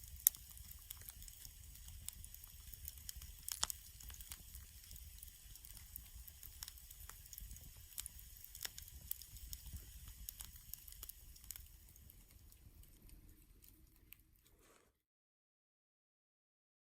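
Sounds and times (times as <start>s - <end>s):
campfire crackling: 0.0s - 14.6s
fire popping: 0.0s - 14.7s.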